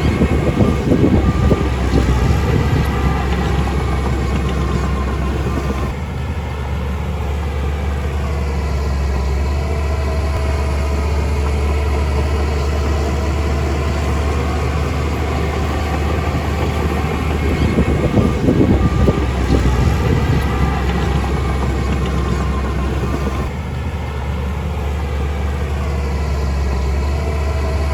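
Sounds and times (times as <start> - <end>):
construction machine engine running: 0.0 - 27.9.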